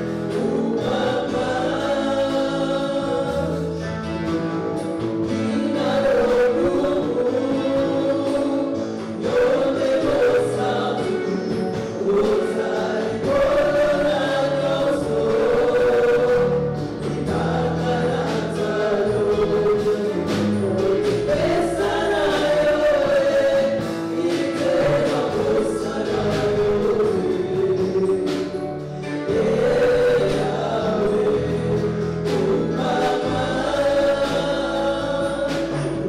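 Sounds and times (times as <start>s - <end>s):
band accompaniment with bass: 0.0s - 36.0s
gospel choir singing: 0.0s - 36.0s.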